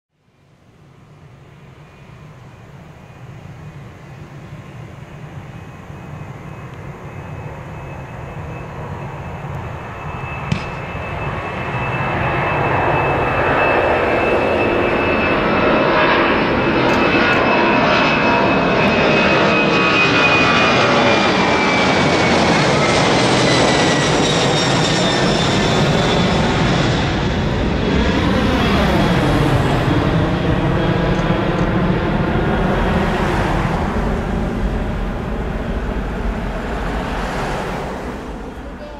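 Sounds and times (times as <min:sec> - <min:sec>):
high jet engine whine: 0:00.2 - 0:38.9
jet airliner passing overhead: 0:00.2 - 0:38.9.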